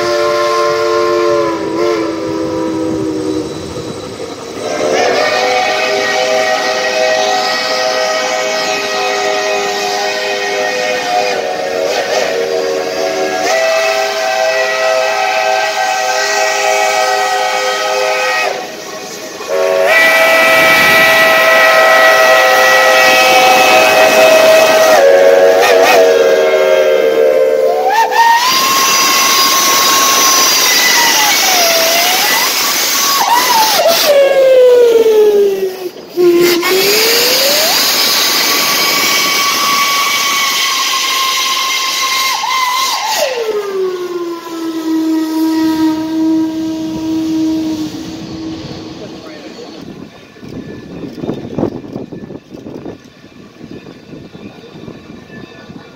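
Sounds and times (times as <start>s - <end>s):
steam hissing: 0.0s - 55.9s.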